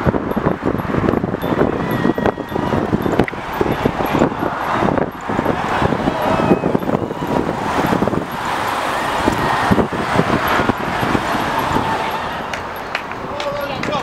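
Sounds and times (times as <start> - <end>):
road traffic noise: 0.0 - 14.0
wind buffeting microphone: 0.0 - 14.0
faint voices: 1.3 - 14.0.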